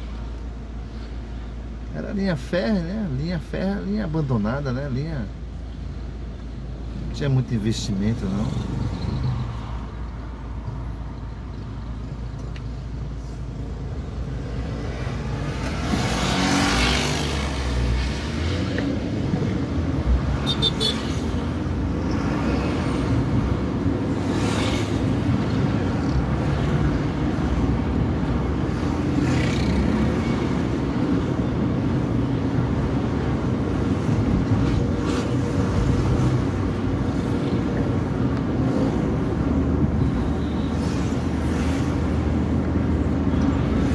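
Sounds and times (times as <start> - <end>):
car engine and tyre noise: 0.0 - 43.9.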